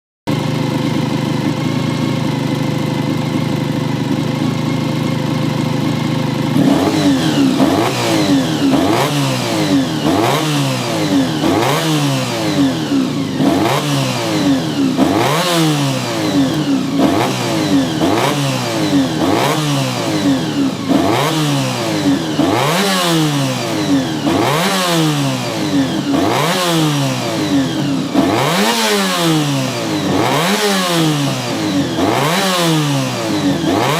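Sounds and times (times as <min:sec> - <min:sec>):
motorcycle engine idling: 0:00.3 - 0:33.9
engine revving in throttle blips: 0:06.4 - 0:33.9.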